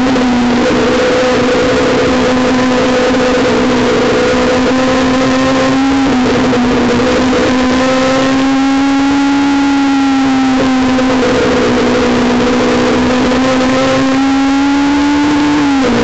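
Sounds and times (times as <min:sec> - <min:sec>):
car engine revving high: 0:00.0 - 0:16.0.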